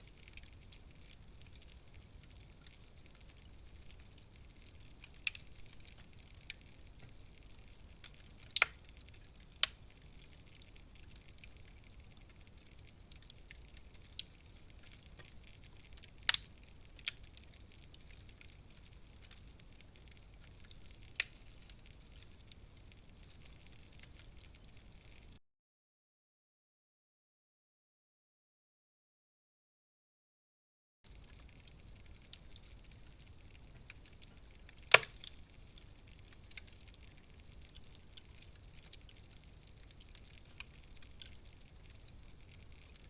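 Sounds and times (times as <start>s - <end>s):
faint steady hiss: 0.0s - 25.4s, 31.1s - 43.0s
wood fire crackling: 0.0s - 25.4s, 31.0s - 43.0s.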